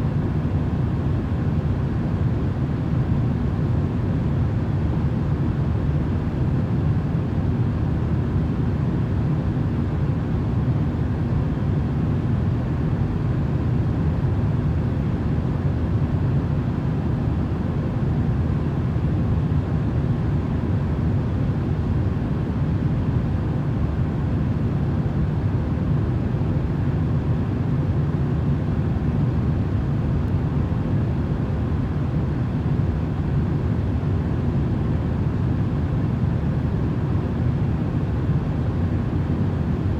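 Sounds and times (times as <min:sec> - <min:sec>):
low rumbling white noise: 0:00.0 - 0:39.9.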